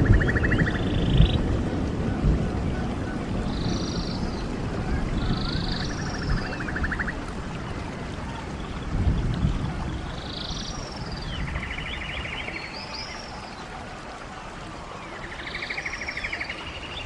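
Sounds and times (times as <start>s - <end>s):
birds singing: 0.0s - 13.8s, 14.8s - 17.0s
stream water running: 0.0s - 17.0s.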